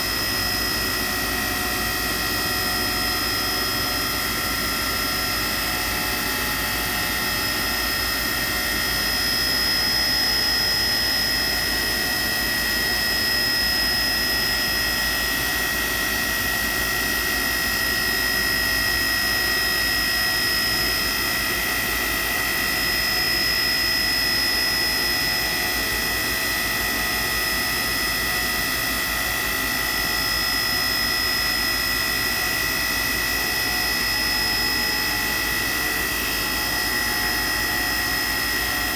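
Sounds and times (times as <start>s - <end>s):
high-pitched machine whines: 0.0s - 38.9s
machine mechanical hum: 0.0s - 38.9s.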